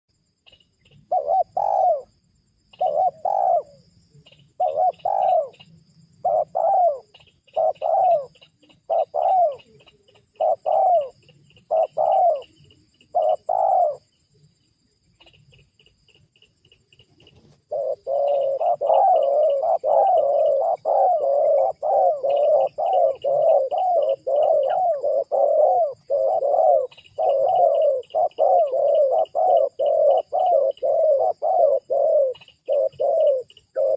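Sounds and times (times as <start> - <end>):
faint high chirping: 0.1 - 33.9
doves cooing: 0.8 - 14.1, 16.7 - 33.9.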